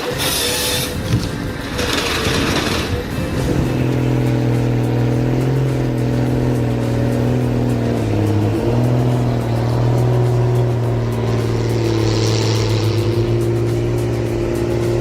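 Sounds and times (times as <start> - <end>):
large engine running under load: 0.0 - 15.0.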